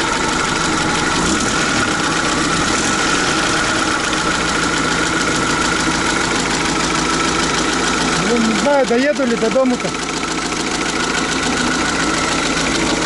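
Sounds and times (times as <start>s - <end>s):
knocking engine running: 0.0s - 13.0s.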